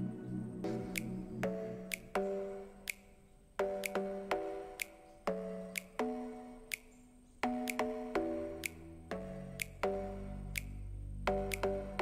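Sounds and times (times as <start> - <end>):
instrumental background music: 0.0 - 12.0
light ticks: 0.8 - 12.0.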